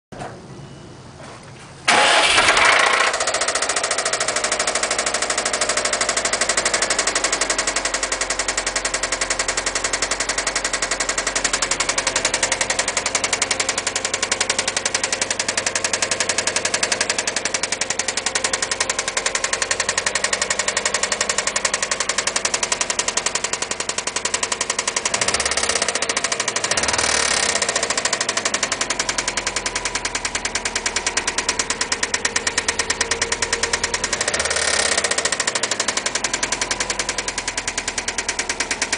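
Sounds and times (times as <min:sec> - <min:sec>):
car engine starting and idling: 0:00.6 - 0:38.9.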